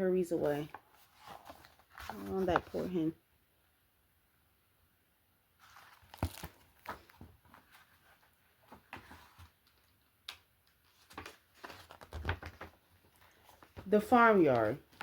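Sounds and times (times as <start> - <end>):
book pages rustling: 0.4 - 3.1, 5.6 - 15.0.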